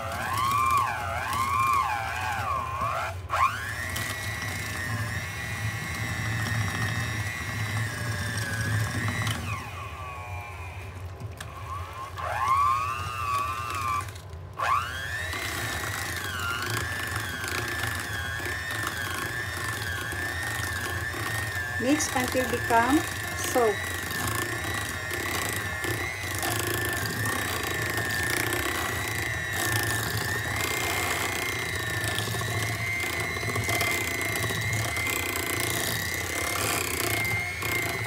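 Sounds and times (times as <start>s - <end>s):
electric hand mixer whining: 0.0s - 38.0s.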